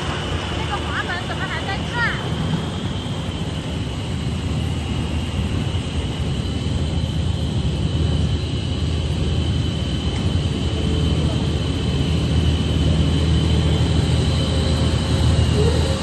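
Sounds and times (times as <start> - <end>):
low machine drone: 0.0 - 16.0
thin high whine: 0.0 - 16.0.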